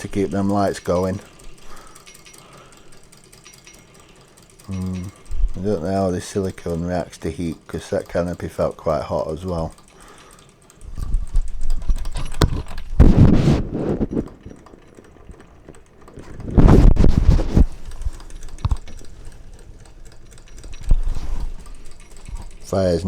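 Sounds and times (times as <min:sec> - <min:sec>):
steam engine gears clattering: 0:00.0 - 0:23.0.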